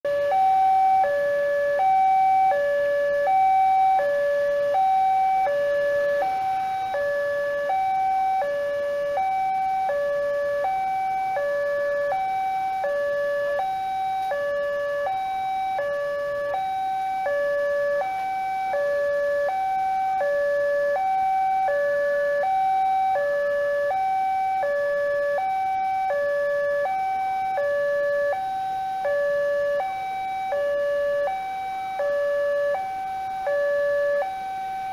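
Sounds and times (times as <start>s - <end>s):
two-tone crossing warning alarm: 0.1s - 34.9s.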